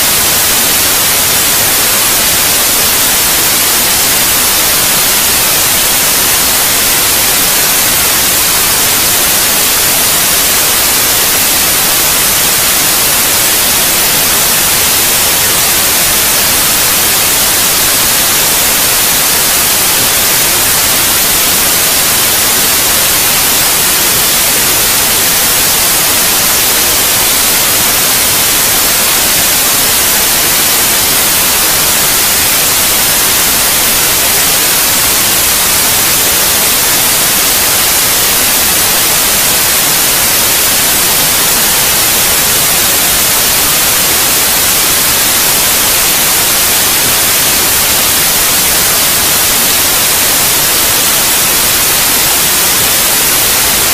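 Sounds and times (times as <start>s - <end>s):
white noise hiss: 0.0s - 53.9s.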